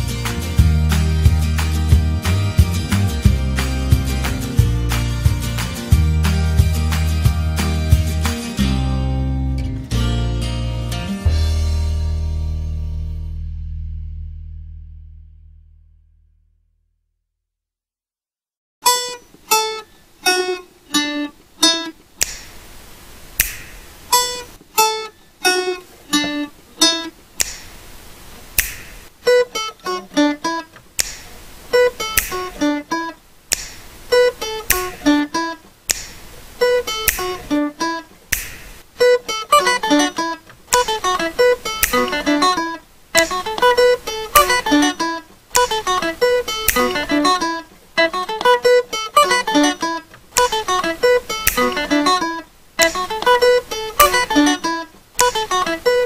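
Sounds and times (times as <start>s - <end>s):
acoustic guitar music: 0.0s - 13.4s, 18.8s - 22.4s, 23.4s - 27.6s, 28.6s - 56.0s.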